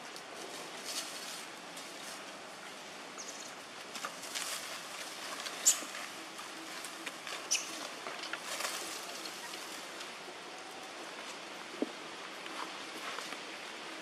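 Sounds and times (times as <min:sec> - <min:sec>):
leaves and twigs rustling: 0:00.0 - 0:14.0.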